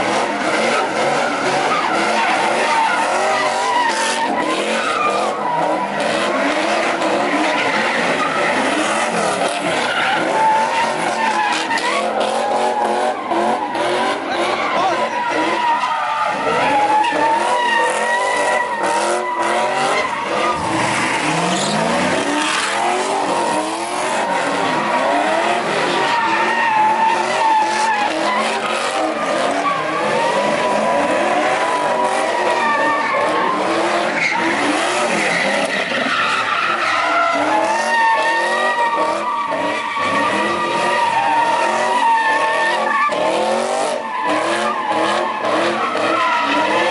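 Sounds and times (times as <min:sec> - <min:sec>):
car engine revving: 0:00.0 - 0:46.9
tyres squealing: 0:00.4 - 0:46.9.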